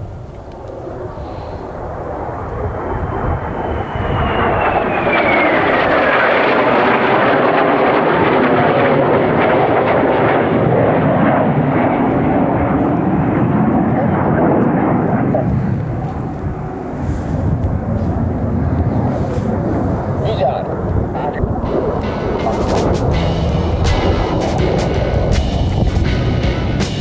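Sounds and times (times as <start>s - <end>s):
jet aircraft passing: 0.6s - 27.0s.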